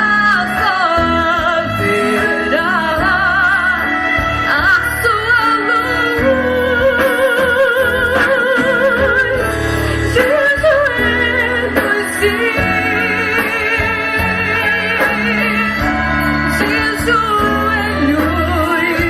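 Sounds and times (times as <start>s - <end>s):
bass line: 0.0s - 19.0s
woman singing with vibrato: 0.0s - 19.0s.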